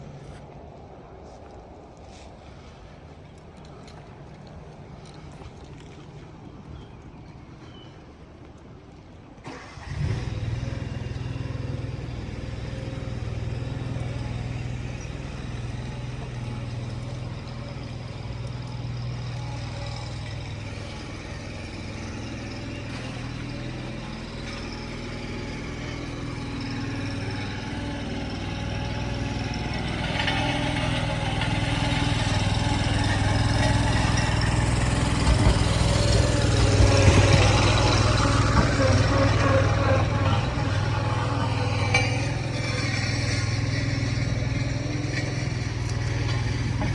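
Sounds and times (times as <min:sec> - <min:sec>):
engine starting and running: 0:09.3 - 0:46.9.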